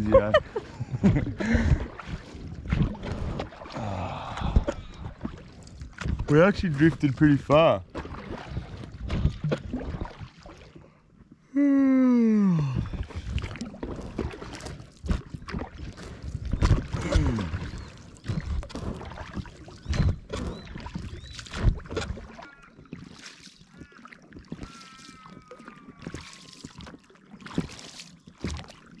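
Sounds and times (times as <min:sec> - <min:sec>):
oars splashing and knocking: 0:00.0 - 0:11.4, 0:12.4 - 0:29.0.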